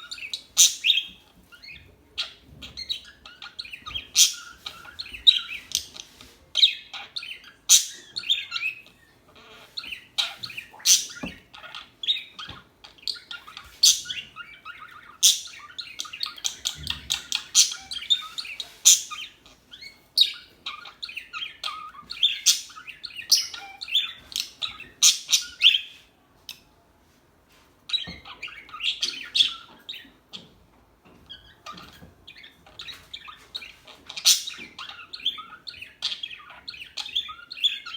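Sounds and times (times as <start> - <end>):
budgerigars chattering and chirping: 0.0 - 26.6, 27.9 - 37.9.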